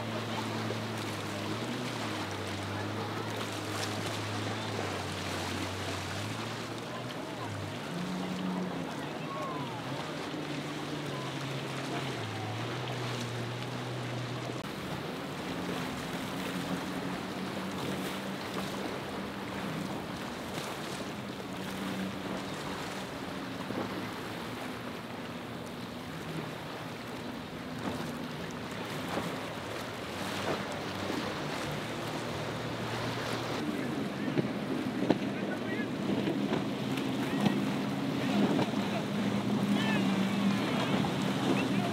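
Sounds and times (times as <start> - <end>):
boat engines droning: 0.0 - 41.9
wave wash and spray: 0.0 - 41.9.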